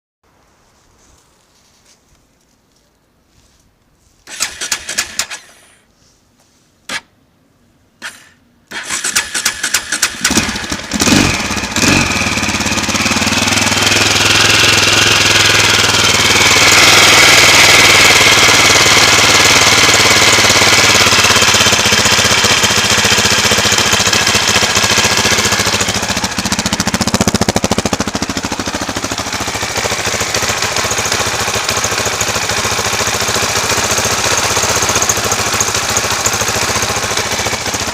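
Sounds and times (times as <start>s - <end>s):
motorcycle engine starting and idling: 4.2s - 5.9s, 8.0s - 37.9s.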